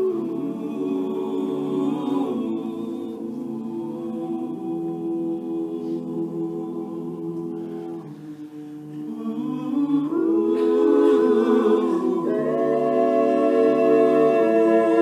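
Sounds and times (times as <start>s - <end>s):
vocal group humming in harmony: 0.0s - 15.0s.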